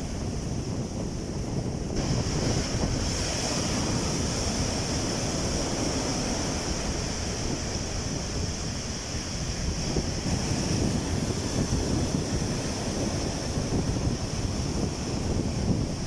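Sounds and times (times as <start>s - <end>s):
sea surf washing in: 0.0s - 16.0s
wind buffeting the microphone: 0.0s - 16.0s.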